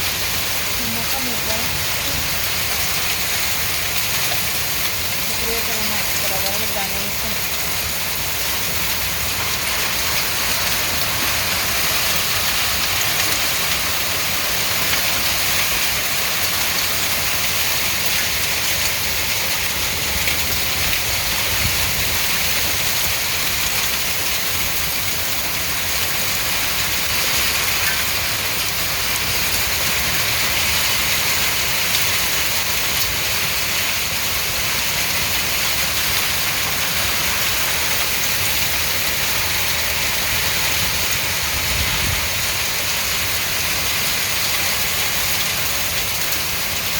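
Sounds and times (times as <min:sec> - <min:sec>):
heavy rain and hail: 0:00.0 - 0:46.9.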